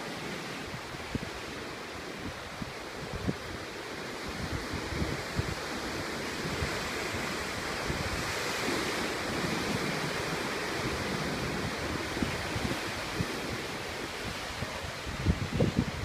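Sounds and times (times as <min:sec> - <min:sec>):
ocean surf breaking over rocks: 0:00.0 - 0:16.0
wind buffeting microphone: 0:00.0 - 0:16.0.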